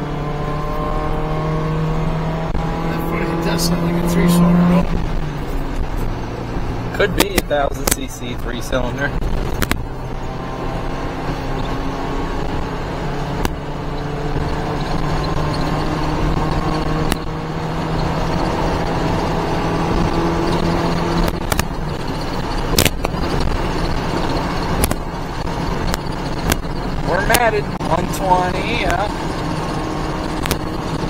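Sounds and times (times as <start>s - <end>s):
road and wind noise: 0.0s - 31.0s
truck engine at full throttle: 0.0s - 31.0s.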